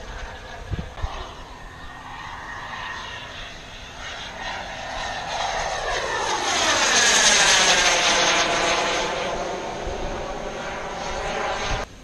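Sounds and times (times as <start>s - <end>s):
model jet turbine whine: 0.0s - 12.0s.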